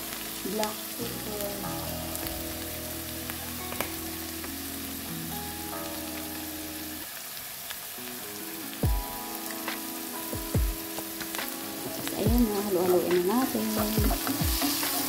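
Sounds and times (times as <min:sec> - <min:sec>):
background music with held notes: 0:00.0 - 0:15.0
food sizzling in a pan: 0:00.0 - 0:15.0.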